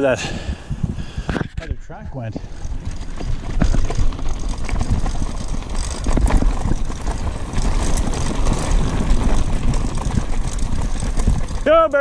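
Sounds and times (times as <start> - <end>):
wind on the microphone: 0.0 - 12.0
bike rattling over stones: 2.2 - 12.0.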